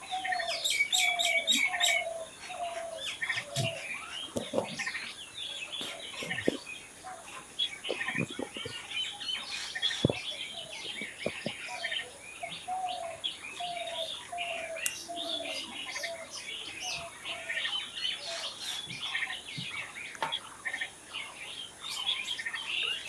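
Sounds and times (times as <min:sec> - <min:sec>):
birds chirping and singing: 0:00.0 - 0:23.0.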